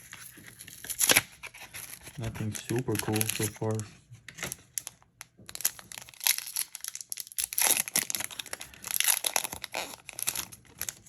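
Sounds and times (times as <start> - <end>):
foil pack crinkling: 0.0 - 3.8, 4.5 - 11.0.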